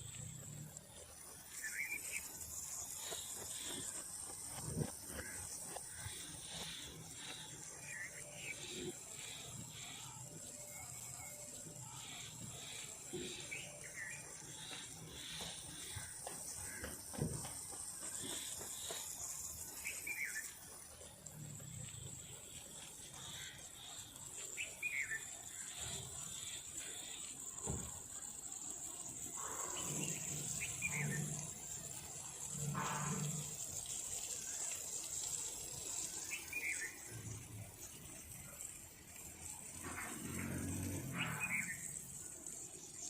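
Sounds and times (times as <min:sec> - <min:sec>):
steady high hiss: 0:00.0 - 0:43.0
water trickling and gurgling: 0:00.0 - 0:43.0.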